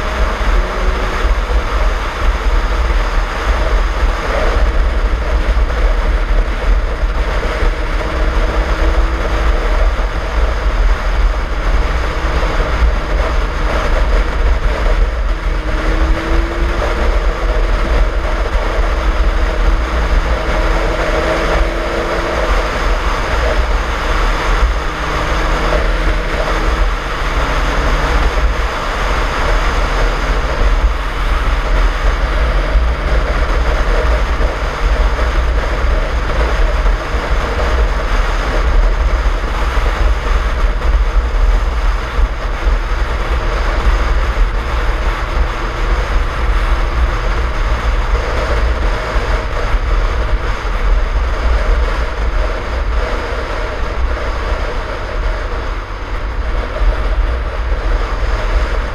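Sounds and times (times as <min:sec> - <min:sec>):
motorcycle engine cruising: 0:00.0 - 0:58.9
wind rumble on microphone: 0:00.0 - 0:58.9.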